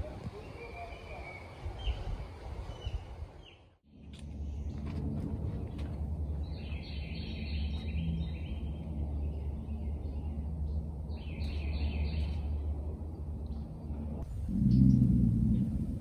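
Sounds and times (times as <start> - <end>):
low background rumble: 2.7 - 16.0.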